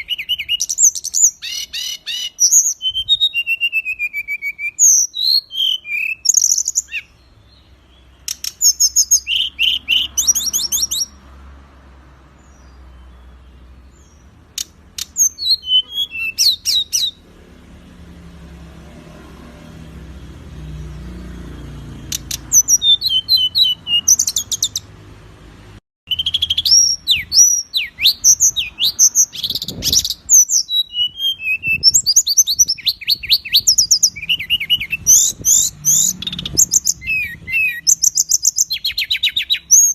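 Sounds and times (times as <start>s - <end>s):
songbird chirps and trills: 0.0s - 25.1s, 26.1s - 39.9s.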